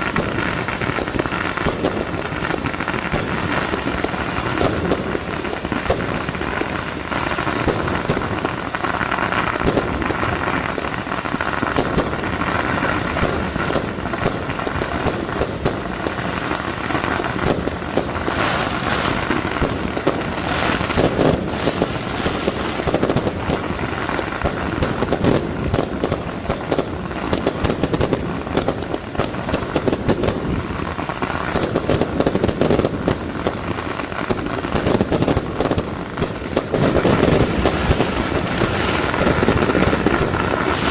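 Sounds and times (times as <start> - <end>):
fireworks cracking and banging: 0.0 - 40.9.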